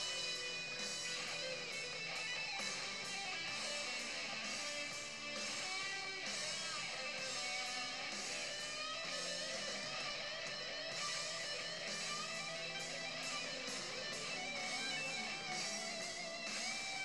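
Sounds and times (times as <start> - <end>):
guitar music with steady beat: 0.0 - 17.0.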